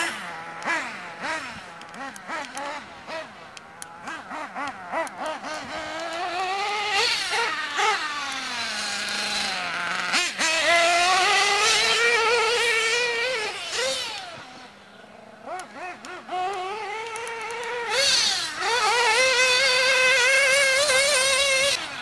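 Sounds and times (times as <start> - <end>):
rc car engines revving: 0.0 - 22.0.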